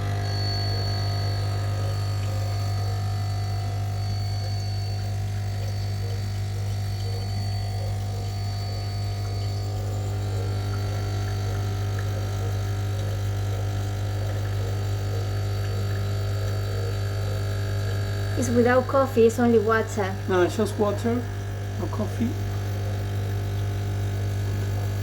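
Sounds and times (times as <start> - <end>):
espresso machine pump humming: 0.0 - 25.0.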